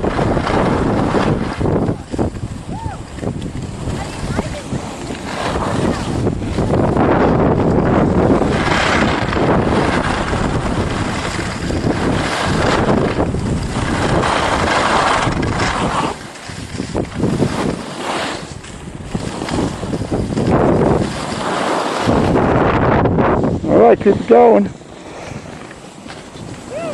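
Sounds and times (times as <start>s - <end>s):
wind roaring over microphone: 0.0s - 26.9s.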